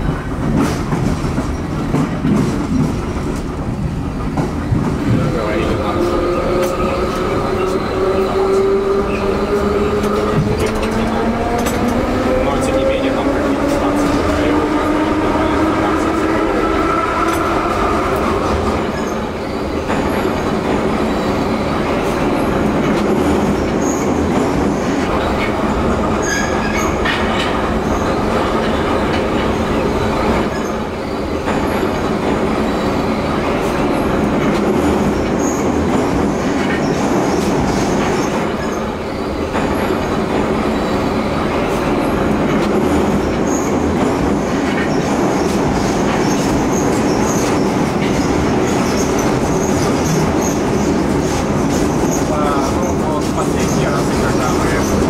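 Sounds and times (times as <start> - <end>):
wheels roaring on rail: 0.0 - 55.0.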